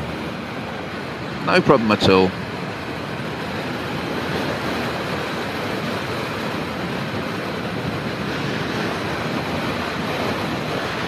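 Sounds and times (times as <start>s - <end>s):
motorcycle road noise: 0.0s - 11.0s
wind buffeting microphone: 0.0s - 11.0s.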